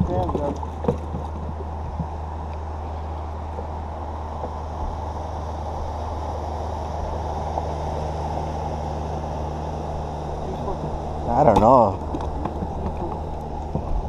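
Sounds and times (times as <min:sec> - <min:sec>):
boat motor hum: 0:00.0 - 0:14.0
rushing noise: 0:01.4 - 0:14.0.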